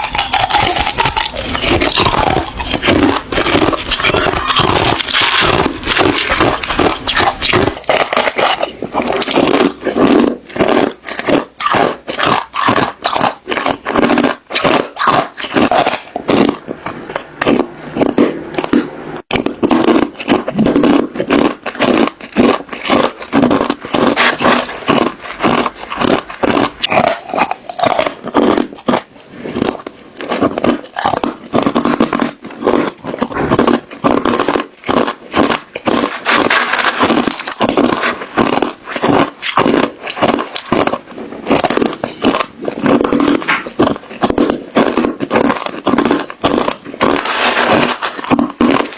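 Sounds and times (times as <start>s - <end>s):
ice cubes crunching when chewed: 0.0s - 48.9s.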